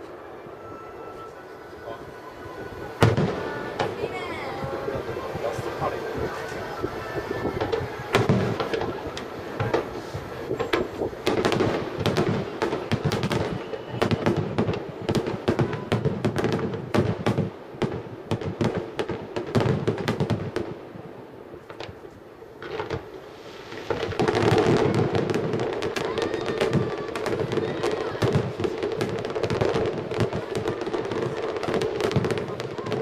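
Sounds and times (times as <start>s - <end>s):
fireworks bursting with crackling: 0.0s - 33.0s.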